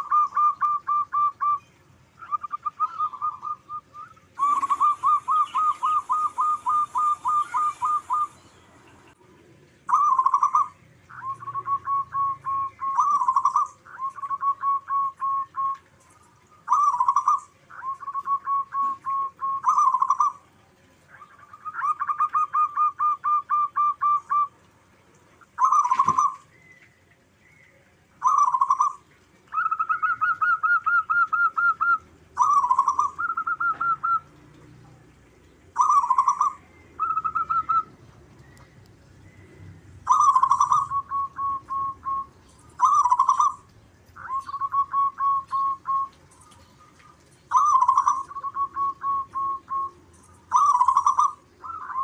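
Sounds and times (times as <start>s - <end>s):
dove cooing: 0.0s - 1.6s, 2.2s - 9.2s, 9.8s - 15.9s, 16.6s - 26.5s, 28.2s - 34.7s, 35.7s - 38.6s, 40.0s - 52.0s.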